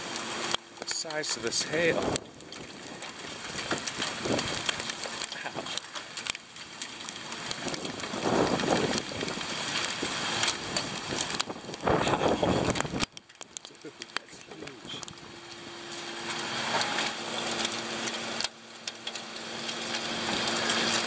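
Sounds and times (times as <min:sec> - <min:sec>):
crackling handling noise: 0:00.0 - 0:21.0.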